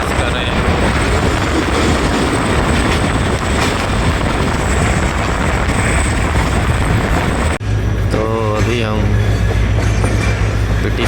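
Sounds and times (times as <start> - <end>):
train rumbling and rushing: 0.0 - 11.0.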